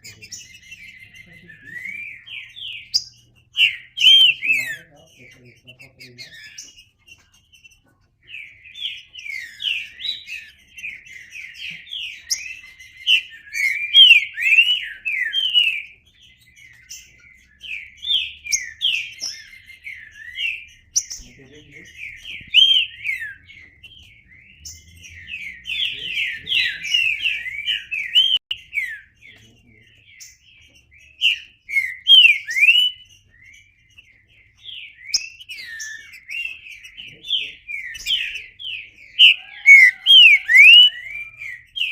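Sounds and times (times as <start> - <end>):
bird singing warbling notes: 0.0 - 41.9.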